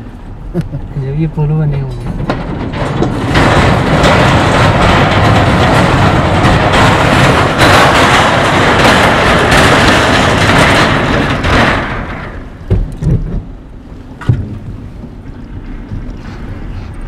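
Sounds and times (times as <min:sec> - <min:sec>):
tyres on steel bridge deck: 0:00.0 - 0:17.0
low thumps: 0:01.9 - 0:17.0.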